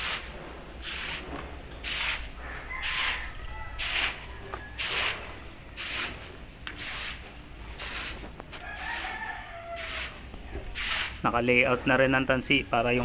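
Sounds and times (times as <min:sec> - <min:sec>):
footsteps on gritty concrete: 0:00.0 - 0:11.2.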